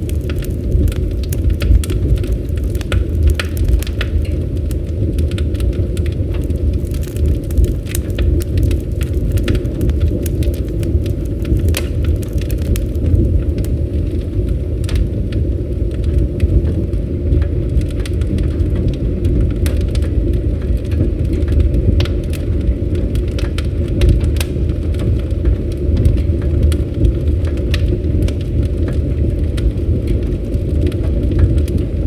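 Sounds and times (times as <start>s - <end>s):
campfire flames rushing: 0.0s - 32.0s
fire crackling and popping: 0.0s - 32.0s.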